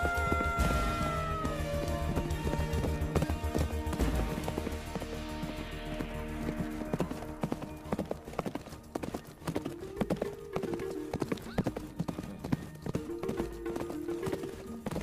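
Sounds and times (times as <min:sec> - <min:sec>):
horse hooves clopping: 0:00.0 - 0:15.0.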